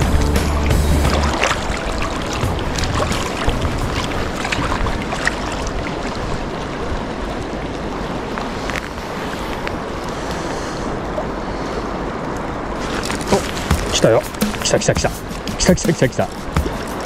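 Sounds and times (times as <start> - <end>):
fast river water rushing: 0.0 - 17.0.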